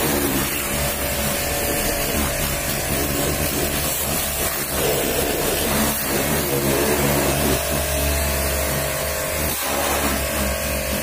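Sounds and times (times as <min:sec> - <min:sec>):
pressure washer motor hum: 0:00.0 - 0:11.0
water jet hissing on metal: 0:00.0 - 0:11.0.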